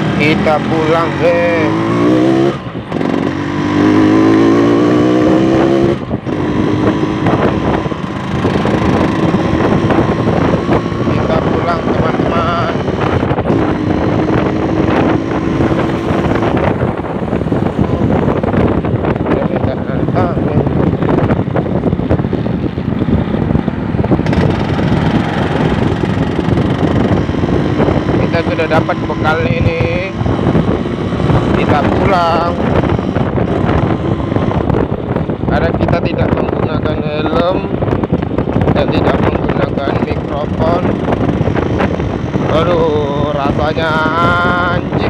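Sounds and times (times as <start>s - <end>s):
motorcycle accelerating: 0.0s - 45.0s
wind buffeting microphone: 0.0s - 45.0s.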